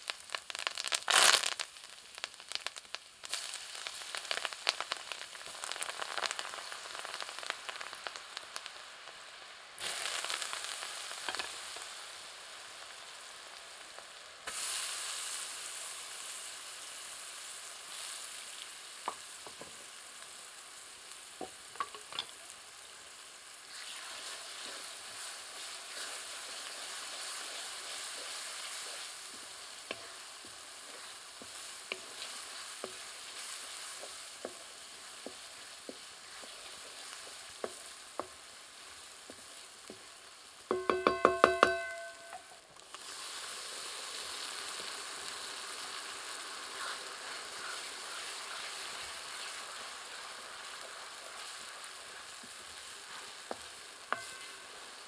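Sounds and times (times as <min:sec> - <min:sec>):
hot oil sizzling: 0:00.0 - 0:55.0.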